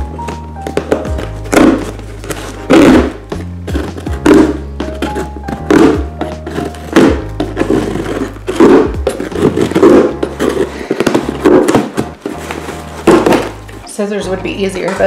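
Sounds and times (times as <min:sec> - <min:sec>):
music playing: 0:00.0 - 0:15.0
knife cutting tape and cardboard: 0:00.2 - 0:13.6.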